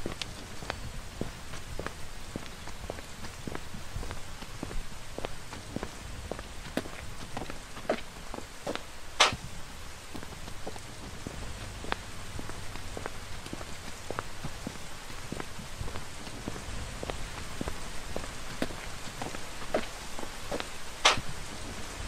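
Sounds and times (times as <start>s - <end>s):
rain falling: 0.0s - 22.0s
raindrops ticking: 0.0s - 22.0s.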